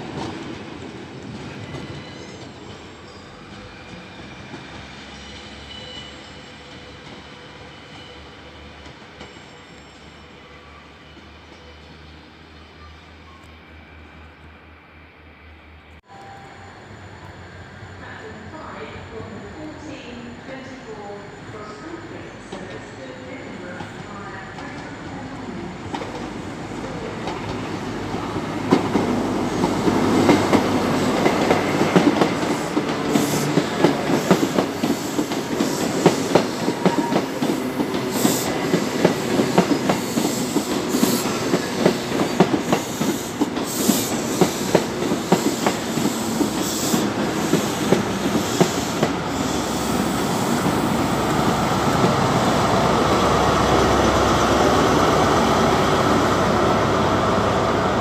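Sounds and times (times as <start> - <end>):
diesel locomotive engine: 0.0 - 58.0.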